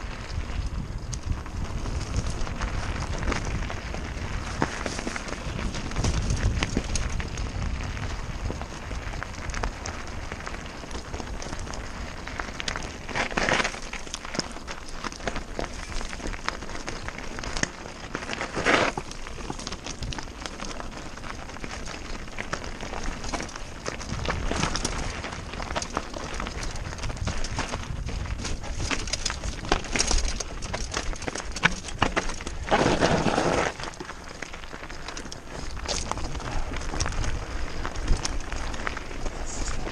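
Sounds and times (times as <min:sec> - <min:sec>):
bike tyres crunching over gravel: 0:00.0 - 0:39.9
stones and bike rattling: 0:00.0 - 0:39.9
wind rumble on microphone: 0:00.0 - 0:39.9.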